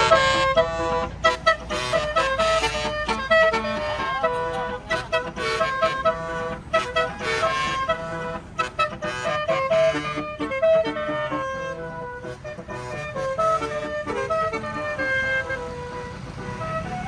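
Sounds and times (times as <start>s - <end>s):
musical bus air horn: 0.0s - 17.0s.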